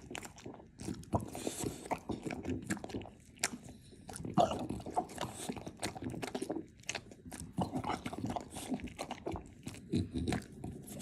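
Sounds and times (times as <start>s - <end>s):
pet chewing and crunching food: 0.0s - 11.0s.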